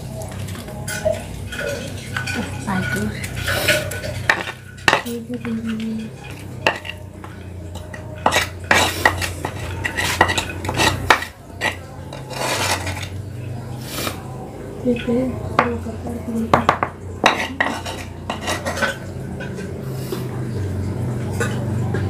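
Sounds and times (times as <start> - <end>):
spoon clinking against mortar: 0.3 - 13.2, 14.9 - 19.7.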